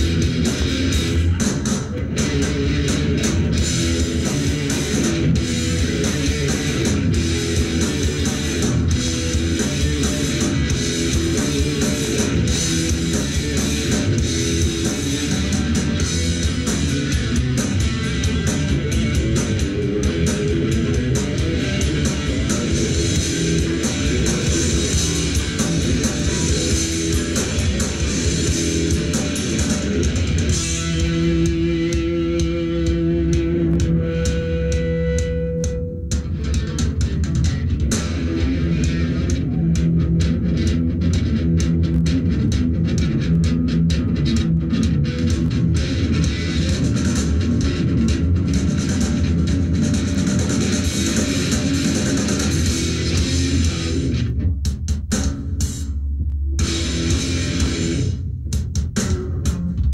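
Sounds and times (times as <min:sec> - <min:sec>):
rock band playing live: 0:00.0 - 0:55.9, 0:56.6 - 0:59.9.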